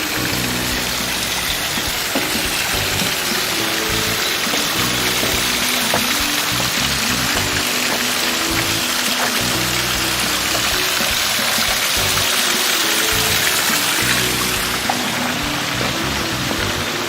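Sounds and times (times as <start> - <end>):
music of held low notes: 0.0 - 17.0
rushing water: 0.0 - 17.0.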